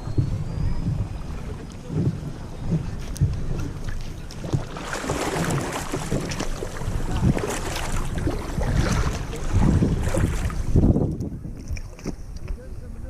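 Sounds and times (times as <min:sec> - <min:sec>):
water splashing and sloshing: 0:00.0 - 0:12.7
wind rumbling on microphone: 0:00.0 - 0:13.0.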